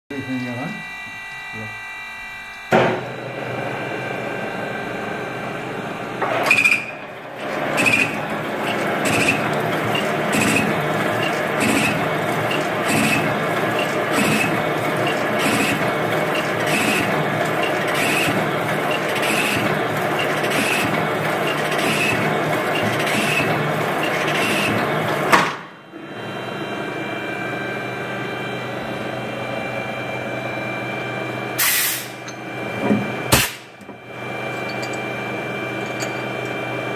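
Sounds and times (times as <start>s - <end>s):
machine running noise: 0.1s - 36.9s.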